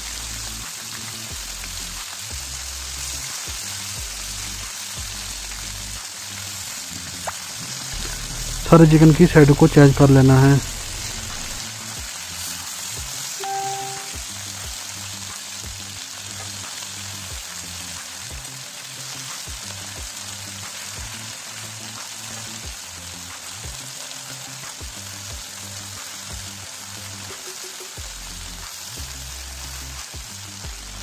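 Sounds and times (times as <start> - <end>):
background music with steady beat: 0.0 - 31.0
chicken sizzling in oil: 0.0 - 31.0.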